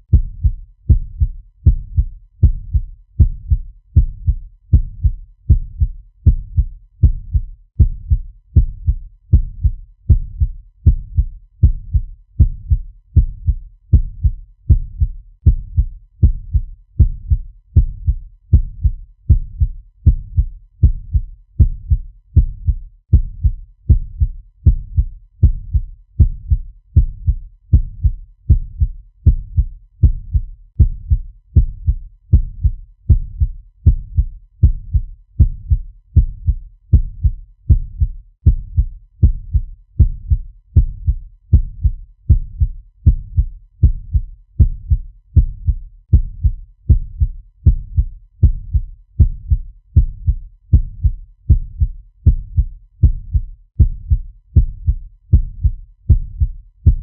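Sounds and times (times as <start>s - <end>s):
fast heartbeat thumps: 0.1s - 57.0s.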